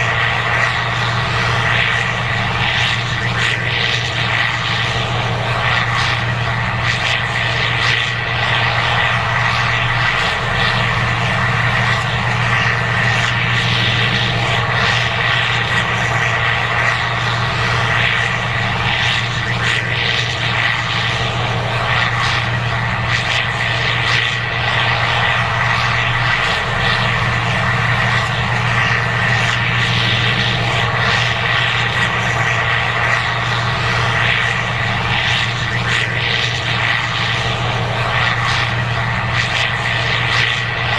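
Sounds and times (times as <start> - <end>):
combine harvester engine drone: 0.0 - 40.9
high whine: 0.0 - 40.9.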